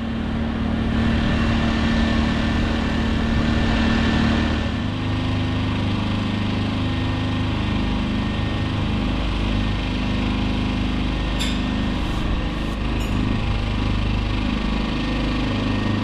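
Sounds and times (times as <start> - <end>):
generators running: 0.0 - 16.0.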